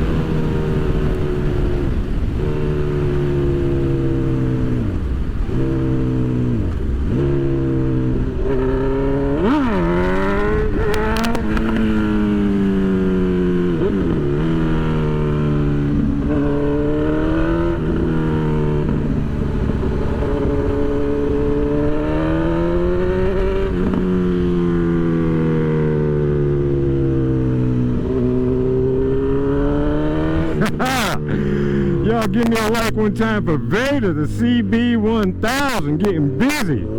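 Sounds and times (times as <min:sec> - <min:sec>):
motorcycle engine shifting gears: 0:00.0 - 0:36.9.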